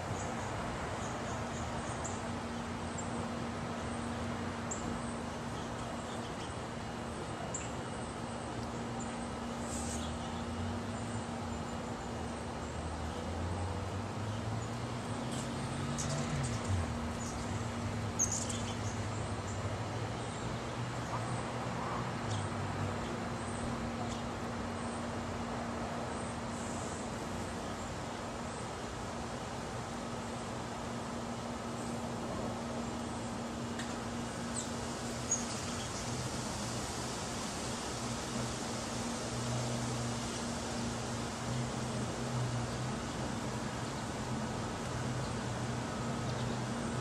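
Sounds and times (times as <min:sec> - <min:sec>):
airplane drone overhead: 0:00.0 - 0:47.0
steady hiss: 0:00.0 - 0:47.0.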